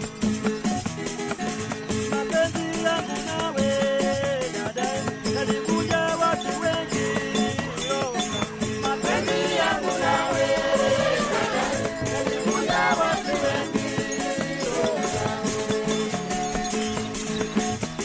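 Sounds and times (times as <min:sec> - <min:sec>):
background music with shaker percussion: 0:00.0 - 0:18.0.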